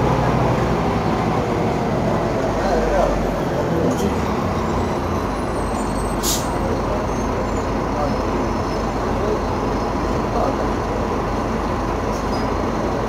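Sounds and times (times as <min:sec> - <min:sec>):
city bus engine and road rumble: 0:00.0 - 0:13.0.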